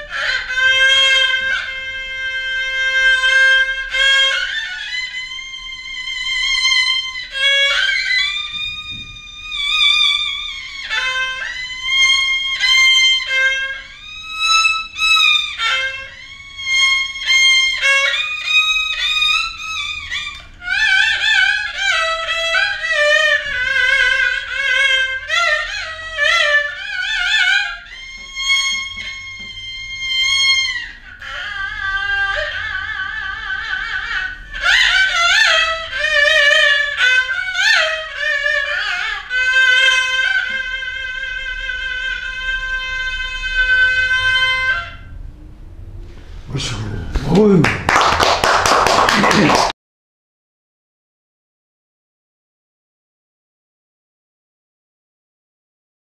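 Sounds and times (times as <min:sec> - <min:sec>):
two-string fiddle playing slowly: 0:00.0 - 0:46.6.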